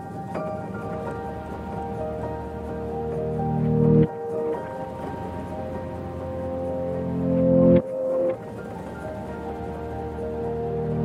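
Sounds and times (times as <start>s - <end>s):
calm ambient music: 0.0s - 11.0s.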